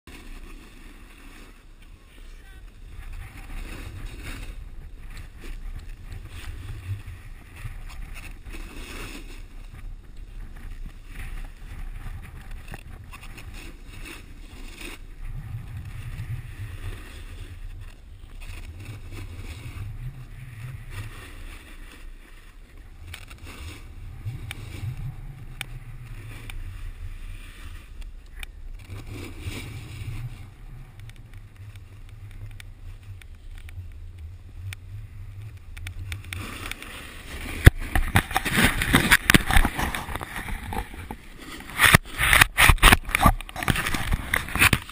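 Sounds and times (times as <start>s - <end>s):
snowboard scraping over snow: 0.1s - 44.9s
wind buffeting microphone: 1.8s - 44.9s.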